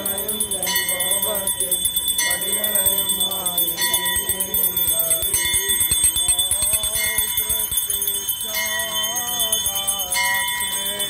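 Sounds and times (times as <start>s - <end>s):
person singing or chanting: 0.0s - 11.0s
small hand bells ringing: 0.0s - 11.0s.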